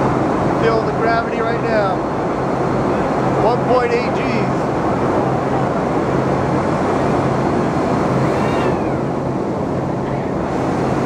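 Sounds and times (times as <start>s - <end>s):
jet engine and airflow noise: 0.0s - 11.0s.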